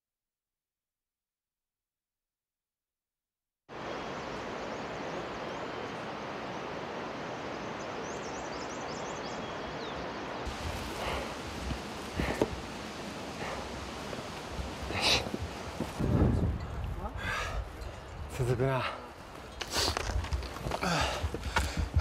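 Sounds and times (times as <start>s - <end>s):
rushing outdoor ambience: 3.7s - 22.0s.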